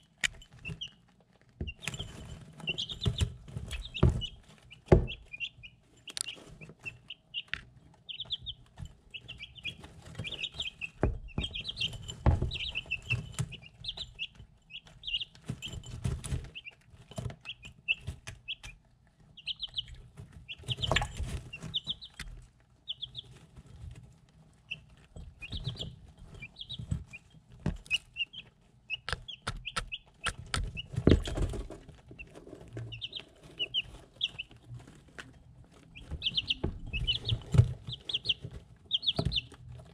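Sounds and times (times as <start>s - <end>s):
beaks pecking ceramic dish: 0.0s - 23.4s, 24.7s - 39.9s
chicks peeping: 0.0s - 39.9s.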